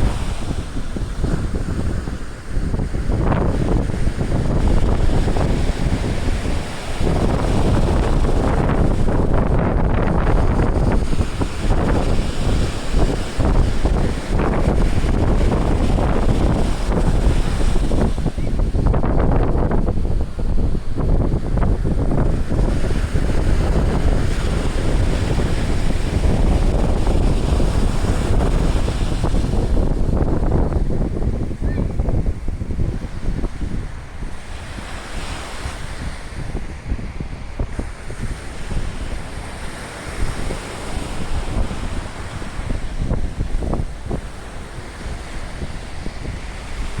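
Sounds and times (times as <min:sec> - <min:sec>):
gusty wind buffeting microphone: 0:00.0 - 0:47.0
surf washing: 0:00.0 - 0:47.0.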